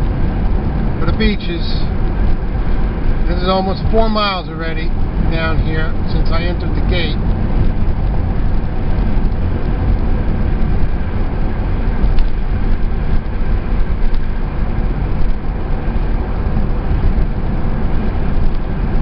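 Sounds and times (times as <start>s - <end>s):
car driving on a road: 0.0s - 19.0s.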